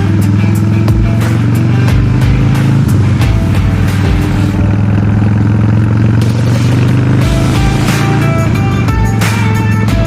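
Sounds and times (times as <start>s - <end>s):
music with steady beat: 0.0s - 4.8s, 6.2s - 10.0s
motorcycle engine running: 0.0s - 10.0s.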